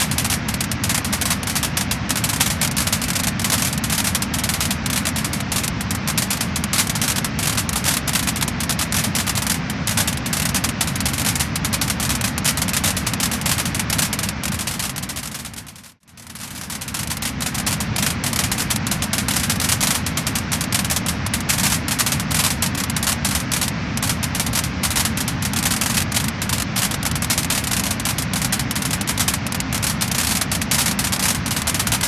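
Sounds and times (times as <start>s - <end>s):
low rush of burning: 0.0s - 31.2s
wood fire crackling and popping: 0.0s - 32.0s.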